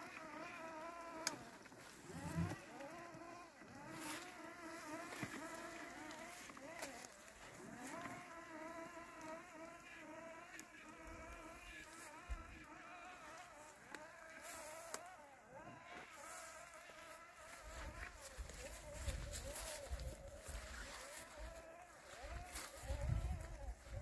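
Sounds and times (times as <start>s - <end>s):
robotic mower motors whining: 0.0s - 24.0s.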